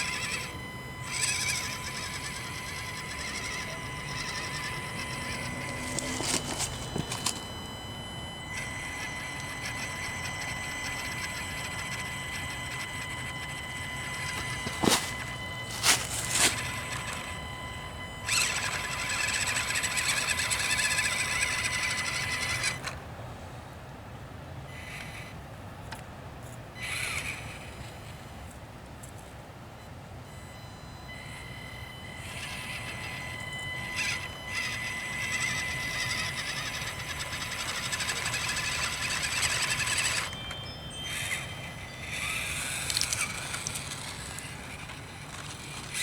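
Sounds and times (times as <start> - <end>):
small electric motor whining: 0.0 - 23.1, 24.7 - 46.0.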